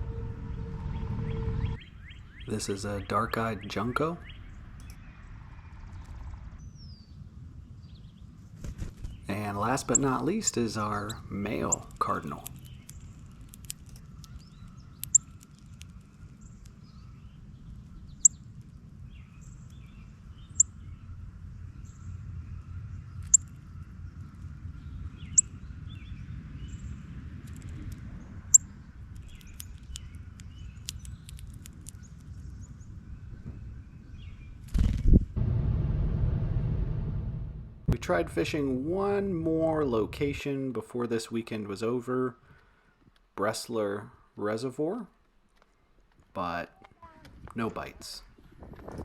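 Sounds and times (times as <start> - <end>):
low steady outdoor hum: 0.0 - 49.0.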